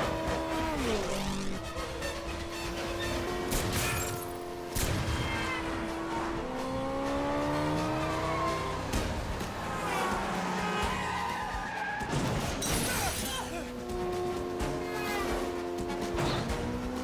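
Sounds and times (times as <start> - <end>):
motorcycle engine: 0.0 - 11.2, 13.4 - 17.0
car engines running: 0.0 - 17.0.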